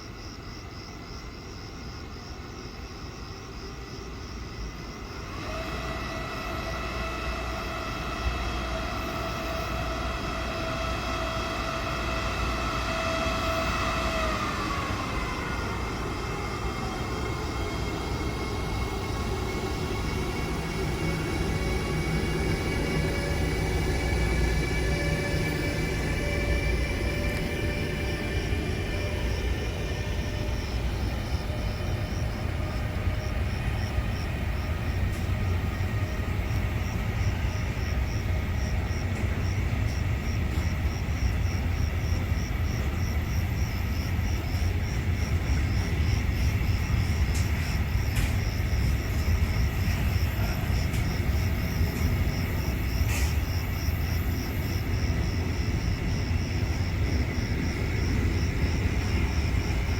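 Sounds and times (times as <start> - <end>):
insects chirping: 0.0 - 59.9
train rumbling: 0.0 - 59.9.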